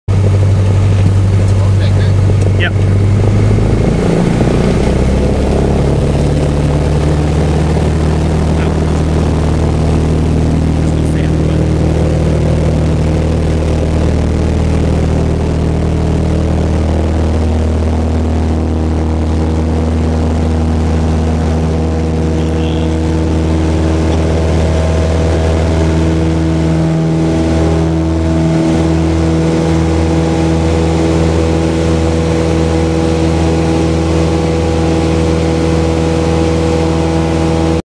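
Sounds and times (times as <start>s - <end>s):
light aircraft engine drone: 0.1s - 37.8s.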